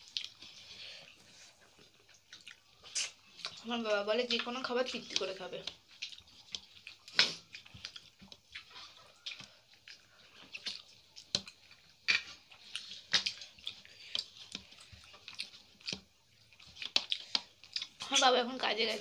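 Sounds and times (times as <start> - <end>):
fingers squishing rice in gravy: 0.0 - 19.0
mouths chewing food: 0.0 - 19.0.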